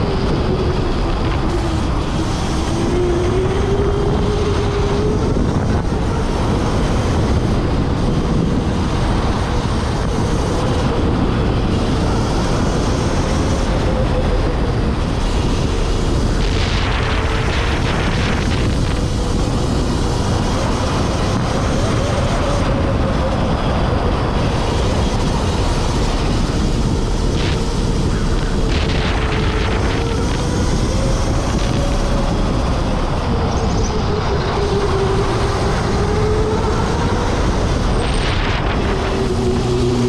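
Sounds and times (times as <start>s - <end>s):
electric motor whine: 0.0s - 40.0s
wind noise on microphone: 0.0s - 40.0s.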